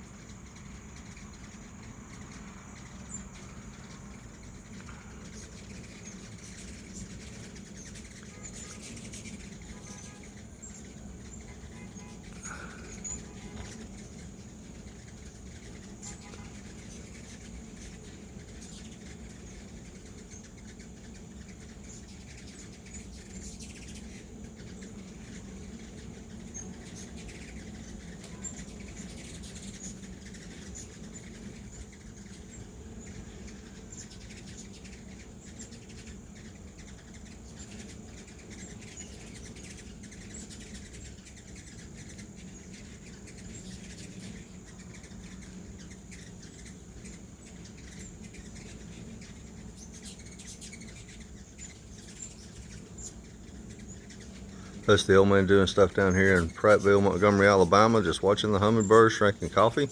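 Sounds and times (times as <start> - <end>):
hummingbird chirps: 0.0 - 59.9
steady low hum: 0.0 - 59.9.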